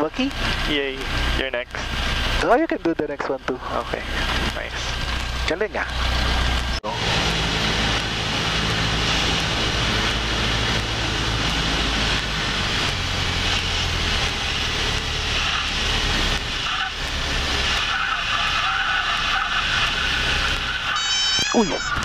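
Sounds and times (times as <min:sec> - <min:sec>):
airplane engine and propeller: 0:00.0 - 0:22.0.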